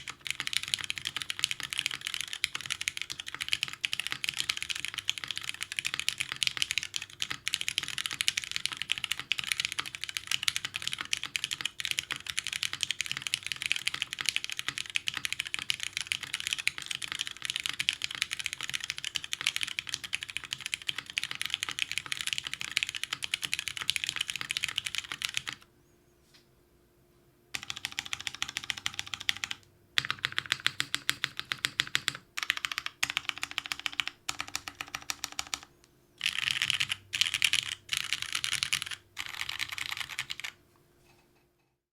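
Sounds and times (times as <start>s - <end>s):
mechanical keyboard typing: 0.0s - 25.6s, 27.6s - 40.6s.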